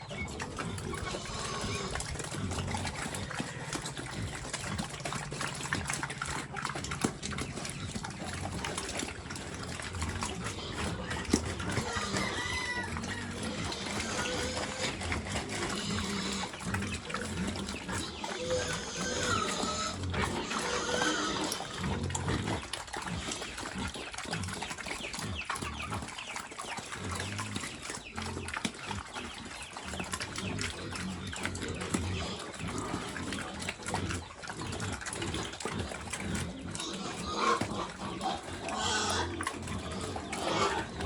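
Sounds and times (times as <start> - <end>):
pigs calling: 0.0 - 41.0
pigs chewing wetly: 0.0 - 41.0
pigs grunting: 0.0 - 41.0.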